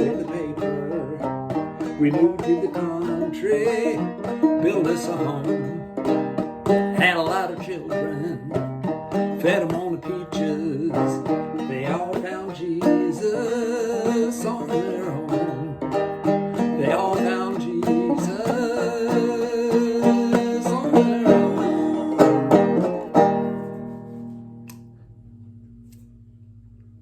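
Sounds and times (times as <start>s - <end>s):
banjo playing: 0.0s - 25.8s.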